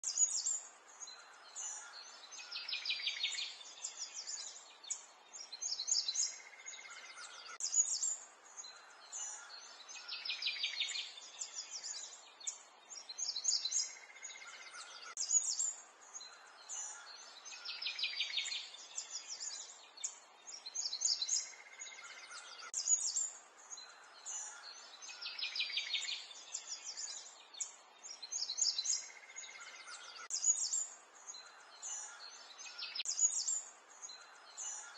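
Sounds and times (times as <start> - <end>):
birds chirping and trilling: 0.0 - 34.9
soft outdoor hiss: 0.0 - 34.9.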